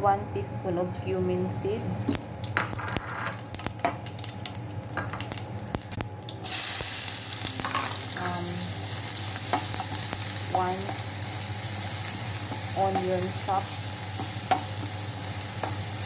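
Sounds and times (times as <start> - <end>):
onion sizzling in a pan: 1.5 - 16.0
seeds crackling in hot oil: 1.7 - 16.0.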